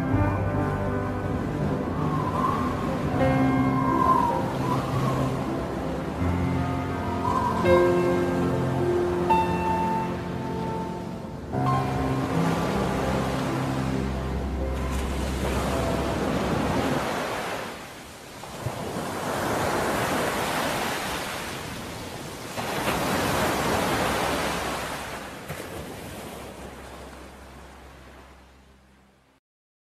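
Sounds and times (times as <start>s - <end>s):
sea waves washing onto shore: 0.7s - 28.6s.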